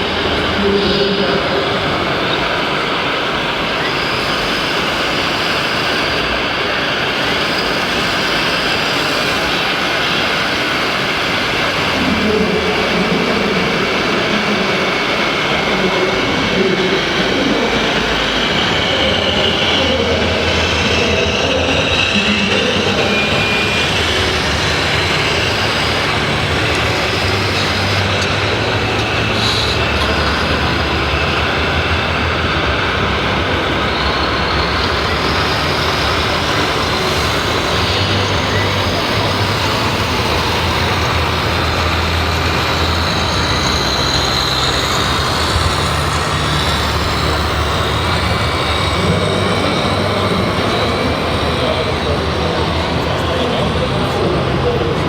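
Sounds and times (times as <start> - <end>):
electric motors whirring and whining: 0.0 - 55.0
low drone: 0.0 - 55.0.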